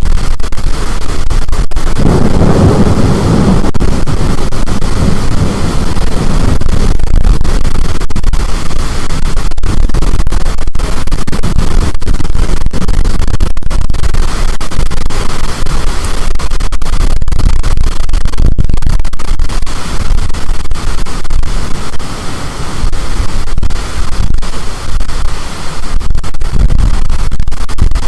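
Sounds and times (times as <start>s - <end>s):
wind blasting microphone: 0.0s - 28.0s.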